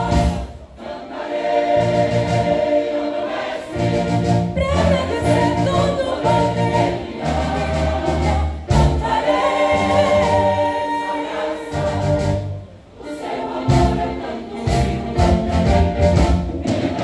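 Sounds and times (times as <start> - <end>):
musical accompaniment with bass: 0.0 - 0.9, 1.6 - 17.0
choir singing gospel: 0.0 - 17.0.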